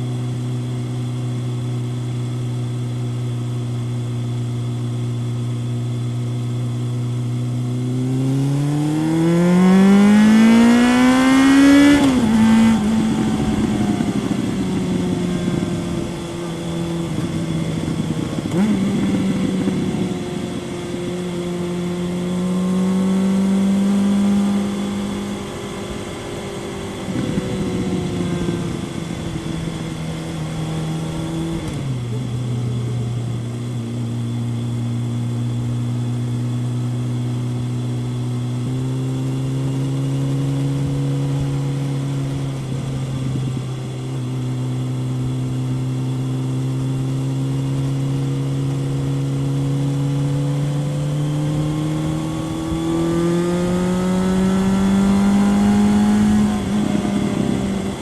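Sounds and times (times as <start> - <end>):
motorcycle engine on the road: 0.0 - 58.0.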